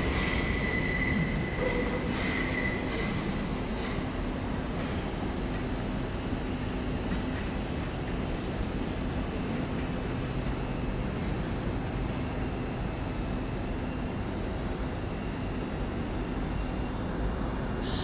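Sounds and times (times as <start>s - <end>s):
railway station low hum: 0.0s - 18.0s.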